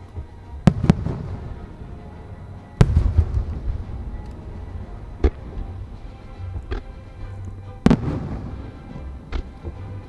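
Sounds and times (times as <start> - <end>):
firework shells bursting: 0.6 - 10.0.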